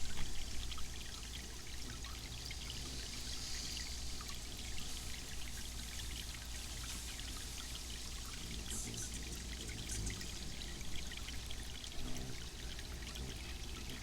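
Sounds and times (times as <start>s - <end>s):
fountain water splashing and trickling: 0.0s - 14.0s.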